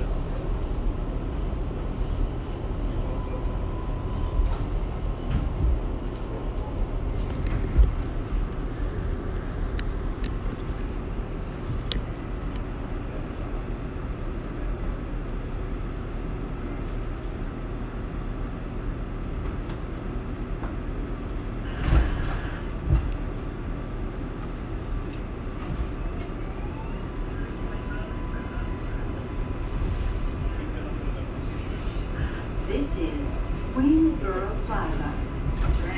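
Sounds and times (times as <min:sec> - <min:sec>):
subway train rumble: 0:00.0 - 0:35.9.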